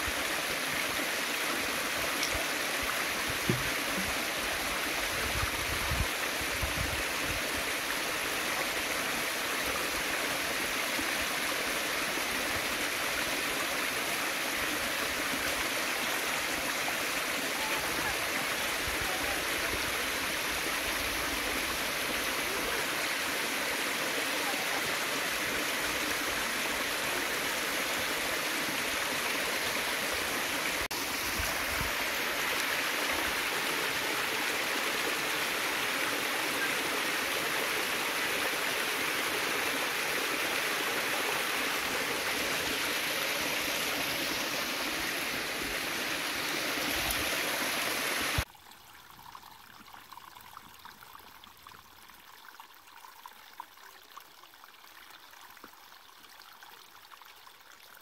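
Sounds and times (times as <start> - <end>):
stream splashing over rocks: 0.0 - 58.0.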